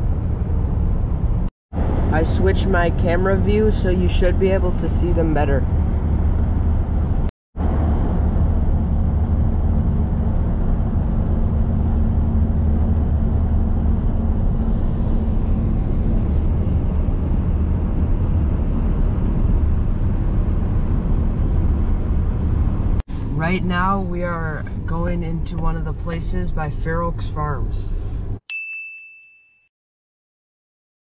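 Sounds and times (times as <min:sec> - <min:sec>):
truck road noise from cab: 0:00.0 - 0:28.4.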